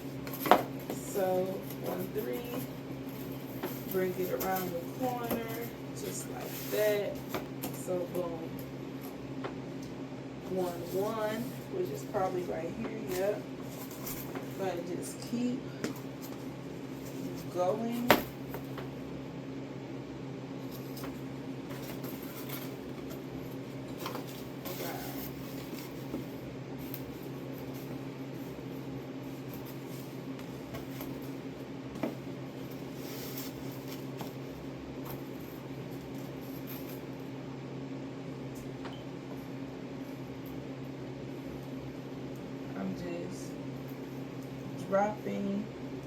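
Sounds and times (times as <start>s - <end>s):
low room hum: 0.0s - 46.0s.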